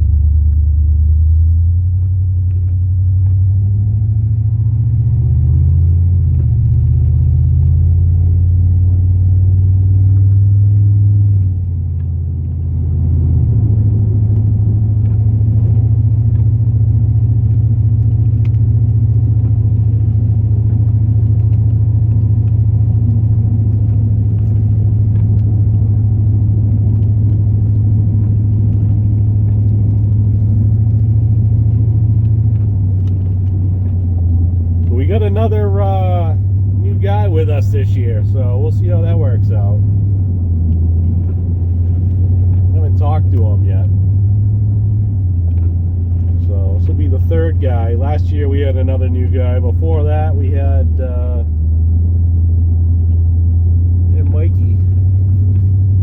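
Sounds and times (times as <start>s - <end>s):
truck engine droning: 0.0s - 56.0s.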